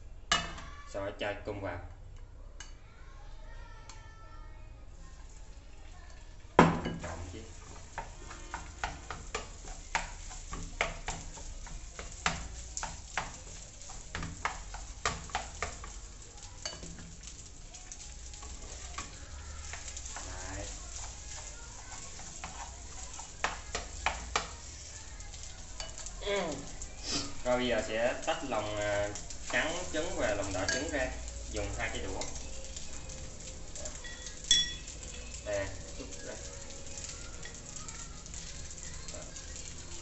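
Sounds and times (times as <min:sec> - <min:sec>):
rice sizzling in frying pan: 0:03.3 - 0:40.0
spoon scraping pan: 0:06.9 - 0:40.0.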